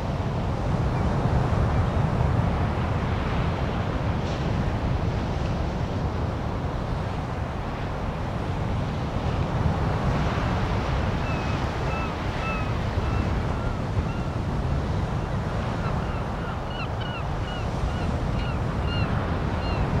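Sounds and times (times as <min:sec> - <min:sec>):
surf washing up the beach: 0:00.0 - 0:20.0.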